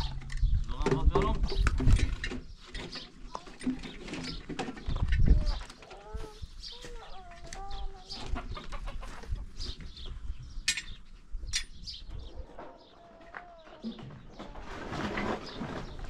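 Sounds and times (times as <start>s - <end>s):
chickens clucking: 0.0s - 10.4s, 12.1s - 16.0s.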